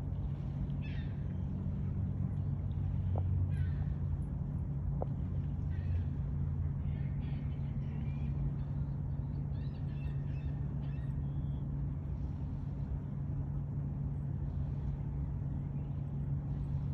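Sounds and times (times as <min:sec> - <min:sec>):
low engine hum: 0:00.0 - 0:16.9.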